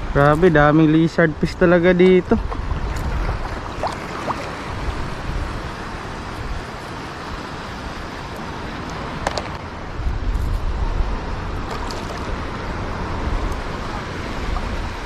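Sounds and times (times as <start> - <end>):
surf at the shoreline: 0.0 - 15.0
wind buffeting microphone: 0.0 - 15.0.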